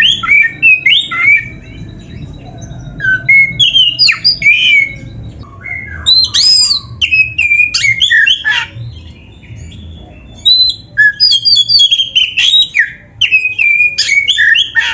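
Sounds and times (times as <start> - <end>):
magpie-robin singing: 0.0 - 14.9.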